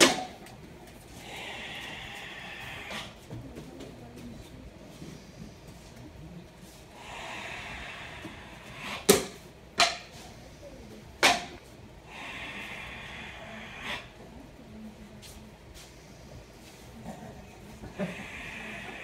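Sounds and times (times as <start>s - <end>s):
forced hissing breaths: 0.0s - 3.4s, 4.9s - 9.5s, 10.1s - 14.6s, 15.2s - 19.0s.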